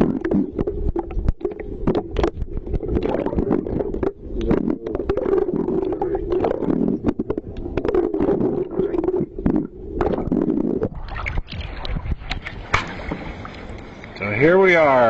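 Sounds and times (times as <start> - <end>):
water sloshing underwater: 0.0 - 15.0.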